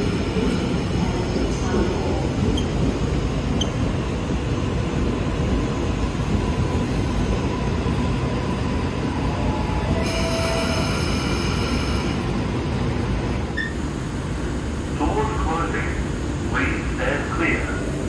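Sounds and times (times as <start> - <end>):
electric train running hum: 0.0 - 18.0.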